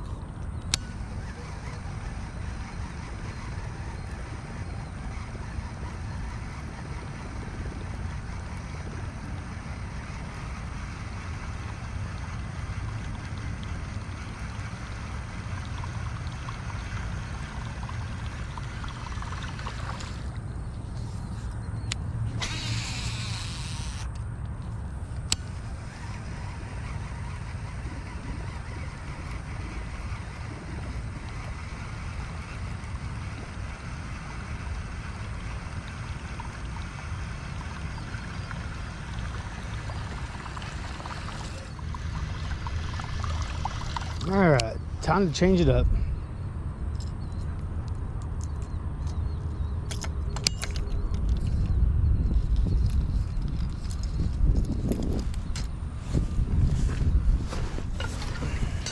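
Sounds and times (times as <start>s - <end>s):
wind buffeting microphone: 0.0s - 23.4s, 25.0s - 58.9s.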